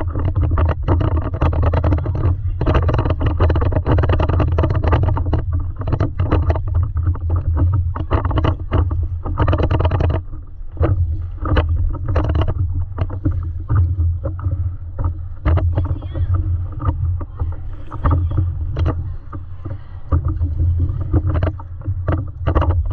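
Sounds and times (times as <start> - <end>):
water splashing against board: 0.0 - 22.9
wind rumble on microphone: 0.0 - 22.9.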